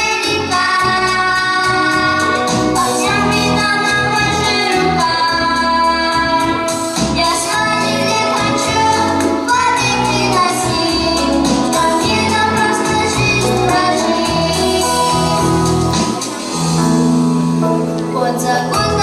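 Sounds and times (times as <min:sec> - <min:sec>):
children singing in unison: 0:00.0 - 0:16.6
instrumental accompaniment with beat: 0:00.0 - 0:19.0.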